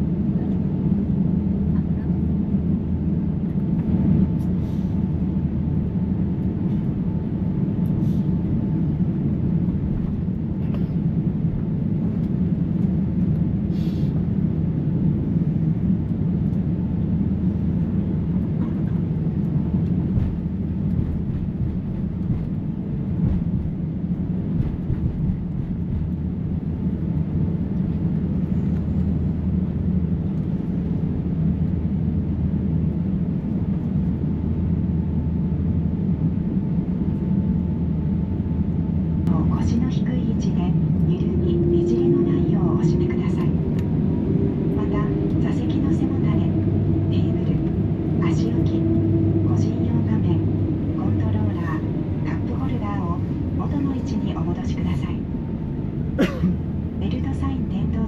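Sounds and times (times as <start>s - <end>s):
jet airliner cabin hum: 0.0s - 58.0s.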